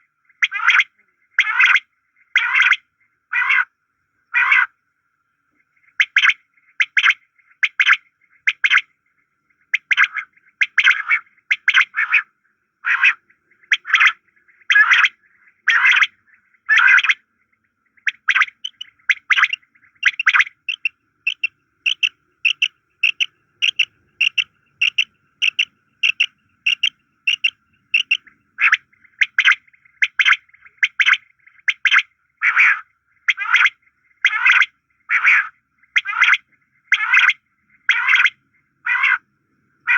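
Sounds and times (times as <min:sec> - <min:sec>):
quails calling: 0:00.0 - 0:03.7, 0:04.3 - 0:04.7, 0:05.7 - 0:08.9, 0:09.5 - 0:39.2.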